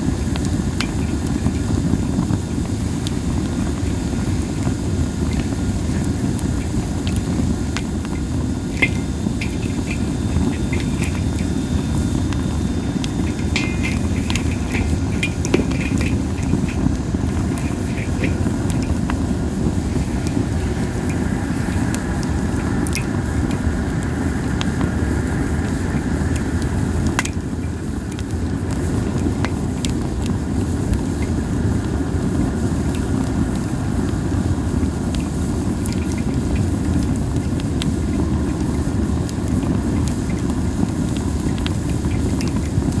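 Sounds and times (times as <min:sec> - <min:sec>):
campfire crackling and popping: 0:00.0 - 0:43.0
whistling hisses from burning wood: 0:00.0 - 0:43.0.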